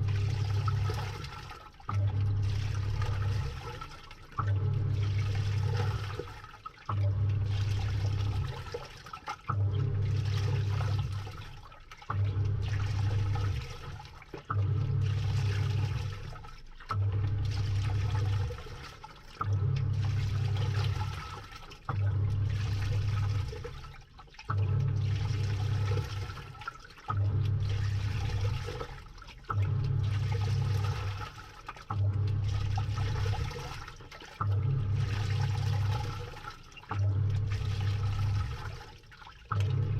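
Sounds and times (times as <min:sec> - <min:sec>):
washing machine motor pulsing: 0:00.0 - 0:39.9
water swirling and sloshing: 0:00.0 - 0:39.9.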